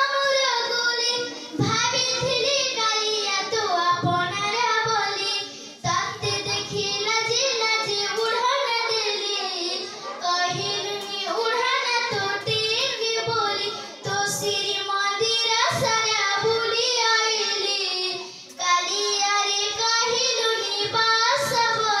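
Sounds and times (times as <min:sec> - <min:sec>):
girl singing into a microphone: 0:00.0 - 0:22.0.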